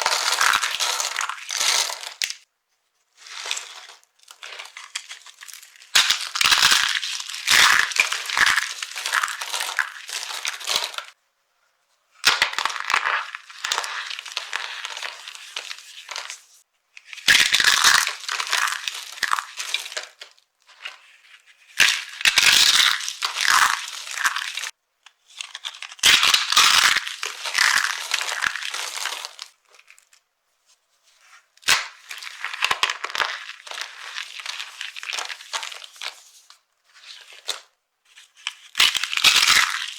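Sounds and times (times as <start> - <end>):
dry soap crunching: 0.0 - 2.4, 3.2 - 11.2, 12.2 - 24.8, 25.4 - 30.2, 31.6 - 39.9.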